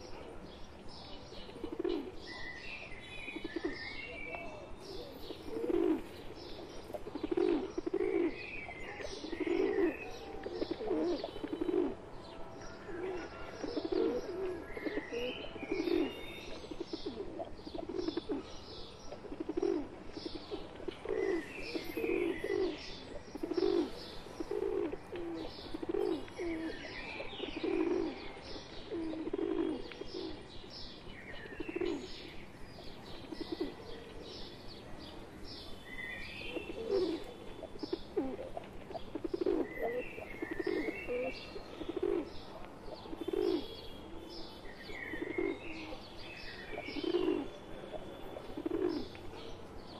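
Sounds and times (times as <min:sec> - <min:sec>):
pigeons cooing: 0:00.0 - 0:35.2, 0:35.8 - 0:49.9
birds chirping: 0:00.0 - 0:49.9.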